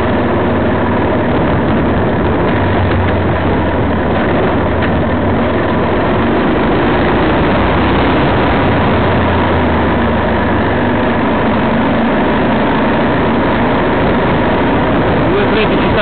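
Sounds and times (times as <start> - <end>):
wind rush over microphone: 0.0 - 16.0.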